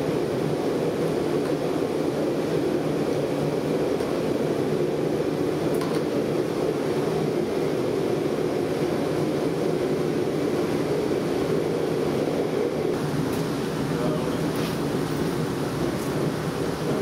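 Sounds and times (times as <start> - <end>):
gas forge burner rushing: 0.0 - 17.0.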